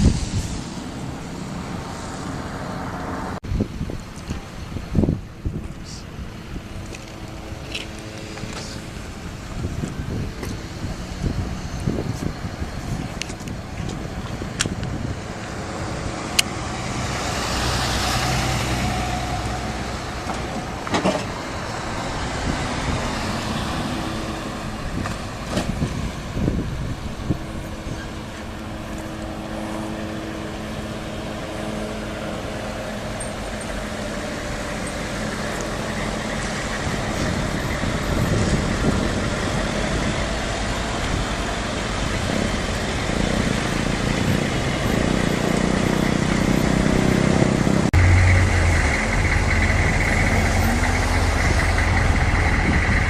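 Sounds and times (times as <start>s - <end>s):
tyres on the road: 0.0s - 53.0s
vehicle engines running: 0.0s - 53.0s.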